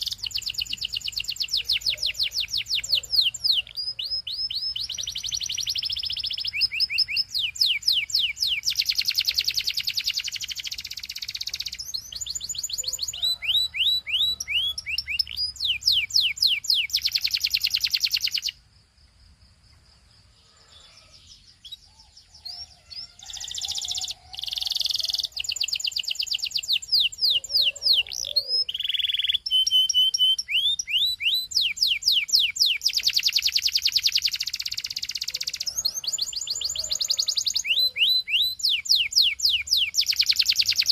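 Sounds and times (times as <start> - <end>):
canary singing trills: 0.0 - 18.6, 20.3 - 40.9.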